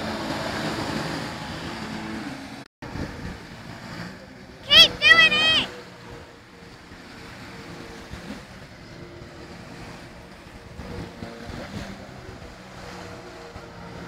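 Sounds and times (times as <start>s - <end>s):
jet ski engine running: 0.0s - 14.0s
rushing water: 0.0s - 14.0s.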